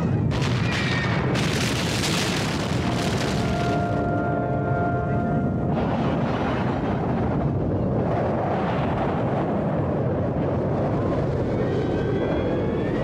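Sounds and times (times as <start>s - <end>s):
fire roaring in strong wind: 0.0s - 13.0s.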